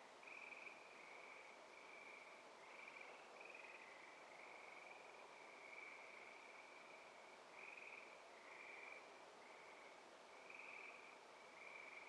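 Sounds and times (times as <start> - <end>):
soft hiss: 0.0 - 12.0.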